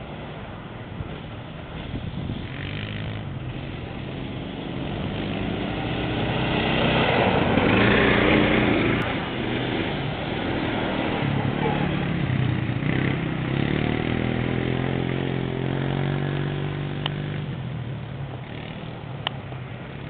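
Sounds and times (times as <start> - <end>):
small off-road engines passing: 0.0 - 20.0.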